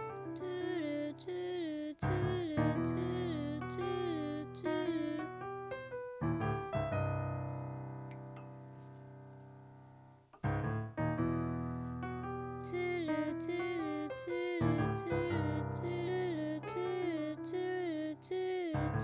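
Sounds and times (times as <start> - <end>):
electric piano music: 0.0 - 19.0.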